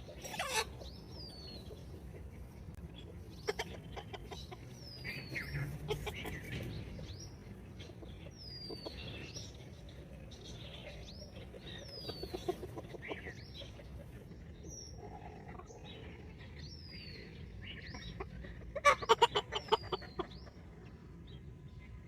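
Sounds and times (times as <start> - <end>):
chicks peeping: 0.0 - 21.4
hens clucking: 0.0 - 21.6.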